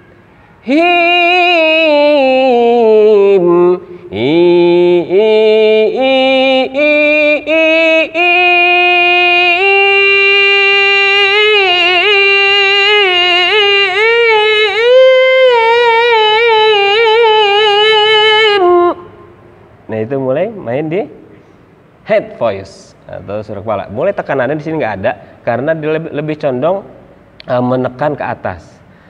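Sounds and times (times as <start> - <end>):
man chanting recitation: 0.6 - 19.2, 19.9 - 21.2, 22.0 - 28.8.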